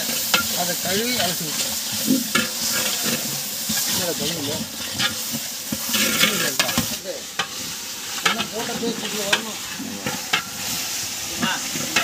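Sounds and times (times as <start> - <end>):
metal ladle scraping a pot: 0.0 - 11.0
onions sizzling in a pot: 0.0 - 12.0.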